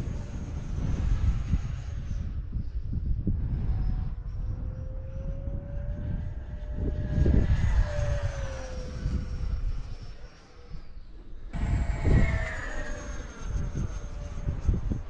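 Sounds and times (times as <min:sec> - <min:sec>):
model jet fan whining: 0:00.0 - 0:15.0
wind rumble on microphone: 0:00.0 - 0:15.0.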